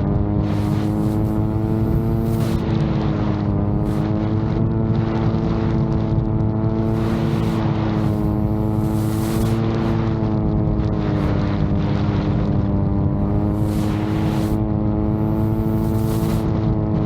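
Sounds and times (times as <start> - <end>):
drone propellers humming: 0.0 - 17.0
wind on microphone: 0.0 - 17.0.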